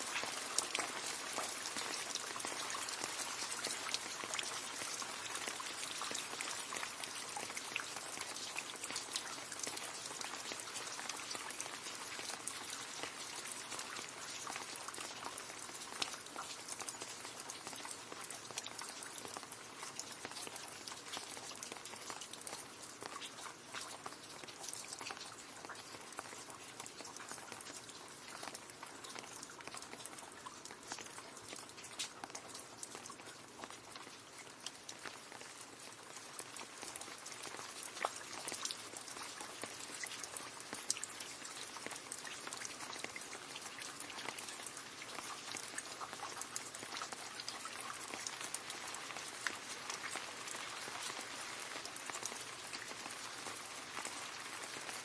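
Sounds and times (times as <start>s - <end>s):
rain falling into a puddle: 0.0s - 55.0s.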